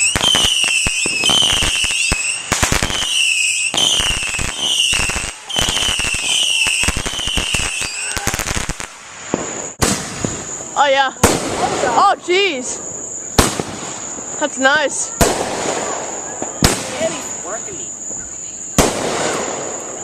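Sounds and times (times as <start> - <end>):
firework whistles: 0.0 - 12.0, 14.9 - 20.0
firework crackling pops: 0.0 - 12.1, 13.3 - 17.4, 18.0 - 20.0.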